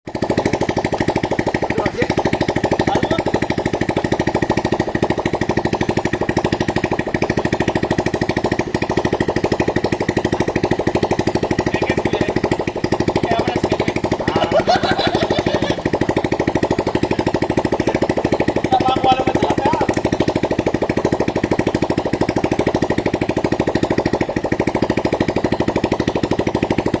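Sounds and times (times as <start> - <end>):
winch engine chugging: 0.1 - 27.0.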